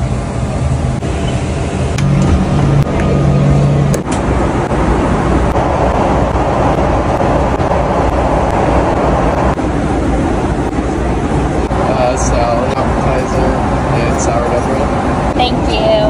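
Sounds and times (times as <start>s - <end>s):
low hum: 0.0s - 15.6s
airliner cabin noise: 0.0s - 16.0s.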